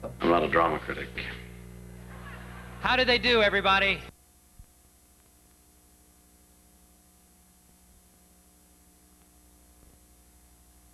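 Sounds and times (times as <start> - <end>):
faint hum and hiss: 0.0 - 10.9.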